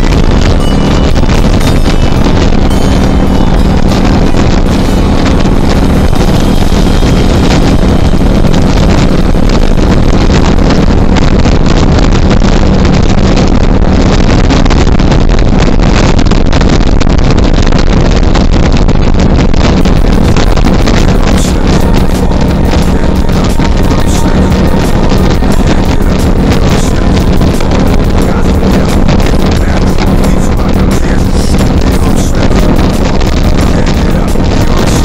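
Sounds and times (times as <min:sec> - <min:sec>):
motorcycle engine hum: 0:00.0 - 0:15.8, 0:18.4 - 0:35.0
wind noise on microphone: 0:00.0 - 0:35.0.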